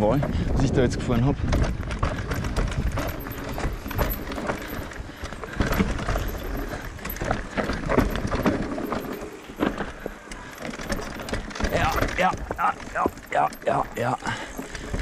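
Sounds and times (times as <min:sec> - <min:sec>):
bike clattering over rocks: 0:00.1 - 0:15.0.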